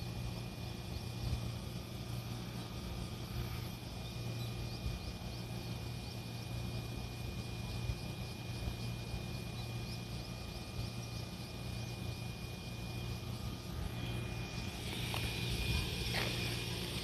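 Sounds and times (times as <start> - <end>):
thin steady whine: 0.0 - 17.0
train equipment humming: 0.0 - 17.0.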